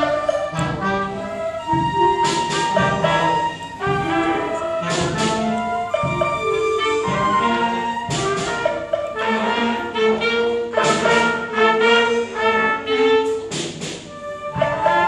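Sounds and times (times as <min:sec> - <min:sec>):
wind band playing chords: 0:00.0 - 0:15.0.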